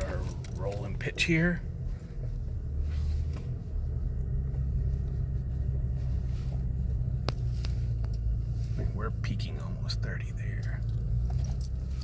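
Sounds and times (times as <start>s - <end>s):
truck engine low drone: 0.0s - 12.0s.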